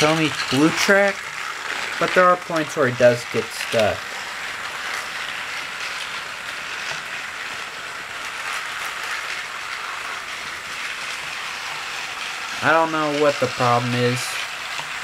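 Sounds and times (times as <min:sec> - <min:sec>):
toy train motor whirring: 0:00.0 - 0:15.0
wheels rolling over plastic track: 0:00.0 - 0:15.0.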